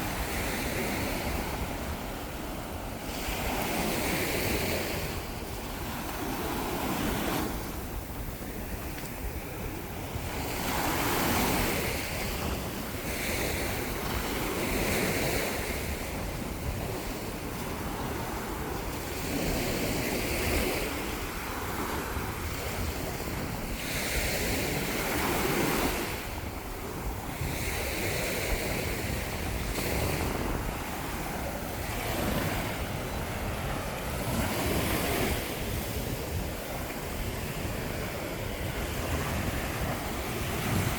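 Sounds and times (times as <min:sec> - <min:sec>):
ocean waves breaking: 0:00.0 - 0:40.9
wind on microphone: 0:00.0 - 0:40.9.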